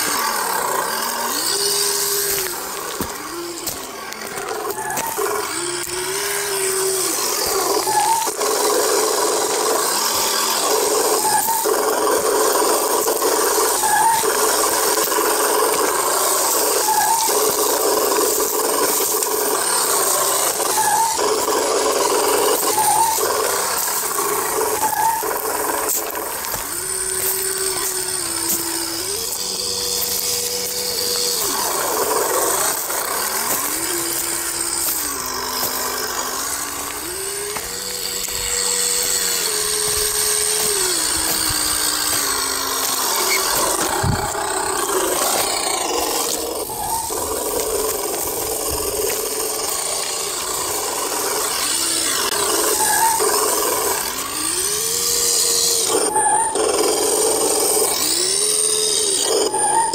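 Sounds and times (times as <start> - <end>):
tyres crunching over leaves and gravel: 0.0 - 54.9
electric motor and gearbox whining: 0.0 - 59.9.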